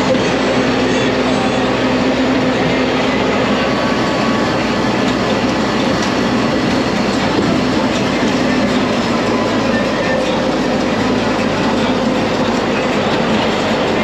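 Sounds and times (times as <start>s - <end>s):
tram engine drone: 0.0s - 14.0s.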